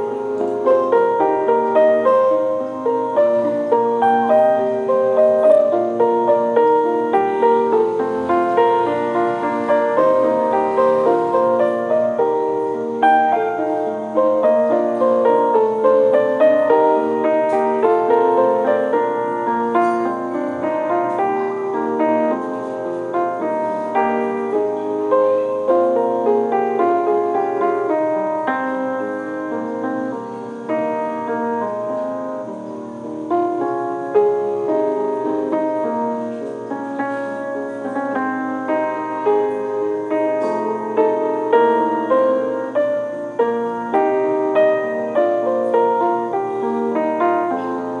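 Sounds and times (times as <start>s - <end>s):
piano melody: 0.0s - 48.0s.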